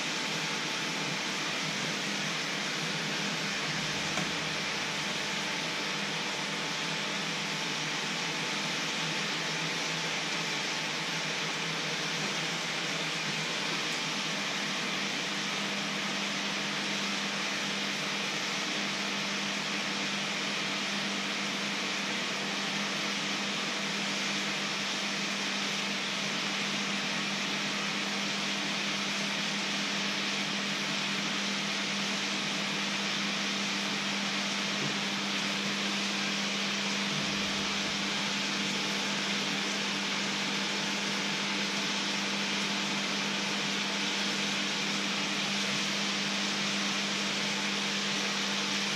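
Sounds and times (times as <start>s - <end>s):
liquid boiling in a pan: 0.0s - 48.9s.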